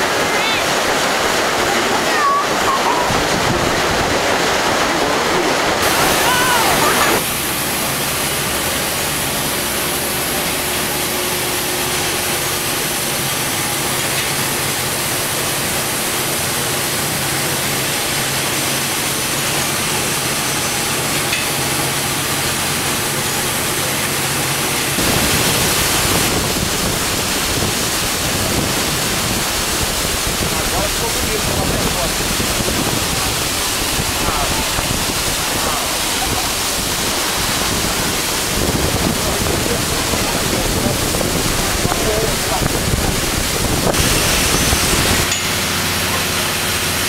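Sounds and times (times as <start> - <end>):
paddle wheel churning water: 0.0 - 47.0
steam engine humming: 0.0 - 47.0.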